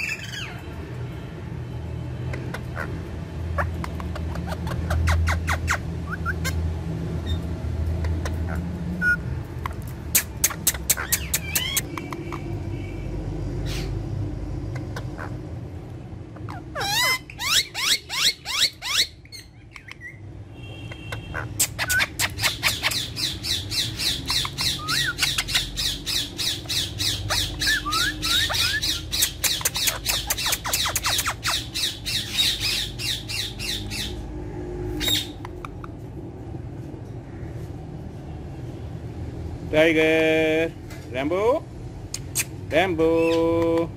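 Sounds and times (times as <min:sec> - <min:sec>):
parakeets screeching: 0:00.0 - 0:01.0, 0:02.2 - 0:36.2, 0:41.2 - 0:43.8.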